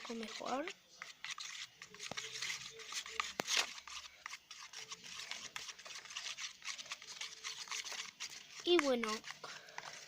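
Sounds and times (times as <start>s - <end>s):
pencil scraping slime in plastic tub: 0.0s - 10.0s.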